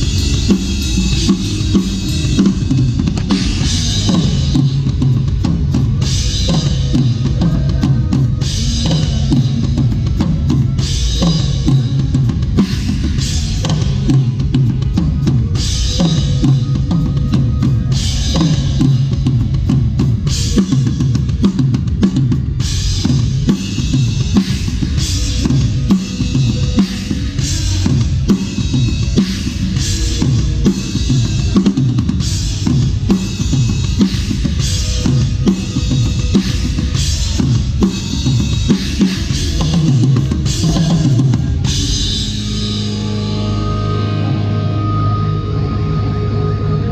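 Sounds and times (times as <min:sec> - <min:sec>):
drum kit groove: 0:00.0 - 0:44.3.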